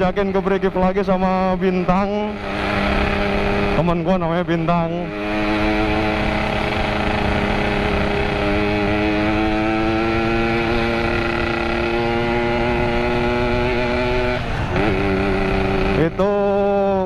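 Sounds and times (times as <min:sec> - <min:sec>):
two-stroke motorcycle engine running: 0:00.0 - 0:17.0
wind and road noise: 0:00.0 - 0:17.0.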